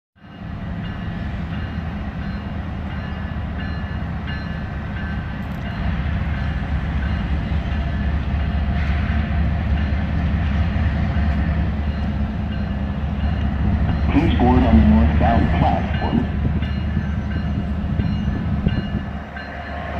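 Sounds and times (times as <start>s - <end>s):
deep locomotive engine drone: 0.2s - 19.9s.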